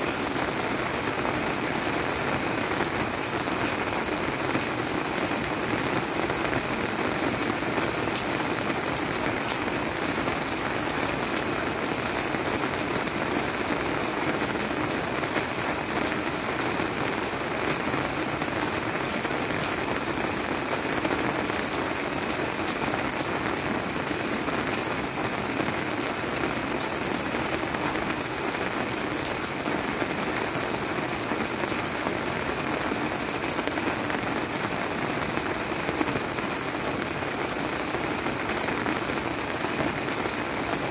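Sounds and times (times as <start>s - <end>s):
rain on leafy plants: 0.0s - 40.9s.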